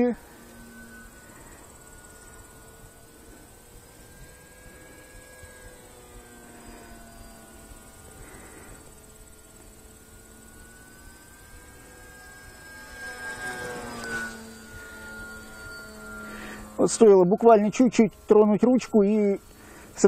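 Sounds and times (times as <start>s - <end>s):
crickets chirring: 0.0s - 20.0s
distant model plane motor whine: 0.0s - 20.0s.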